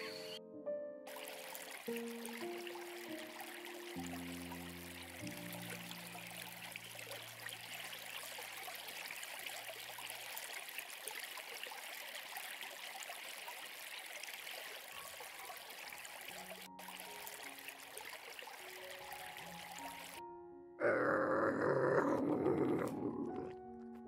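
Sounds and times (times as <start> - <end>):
running water: 0.0 - 0.4, 1.1 - 20.2.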